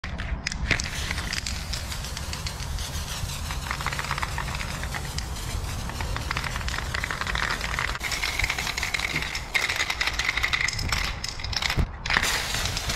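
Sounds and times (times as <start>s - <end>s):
spray can clicks and rattles: 0.4s - 12.9s
spray paint can hissing: 0.7s - 11.4s, 12.1s - 12.9s.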